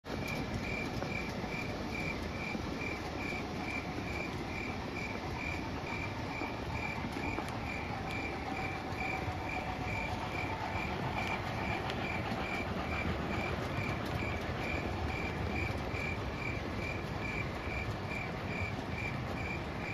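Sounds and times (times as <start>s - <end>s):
high cricket-like chirping: 0.1s - 19.9s
model train rumbling on track: 0.1s - 19.9s.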